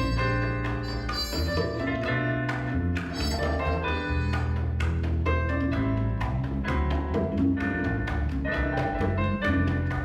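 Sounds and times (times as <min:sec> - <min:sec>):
bass line: 0:00.0 - 0:10.0
latin jazz combo playing: 0:00.0 - 0:10.0.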